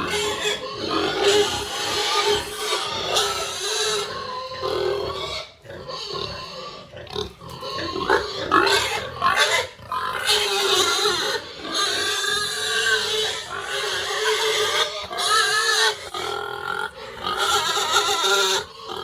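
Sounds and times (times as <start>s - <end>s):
pigs grunting and squealing: 0.0s - 19.0s.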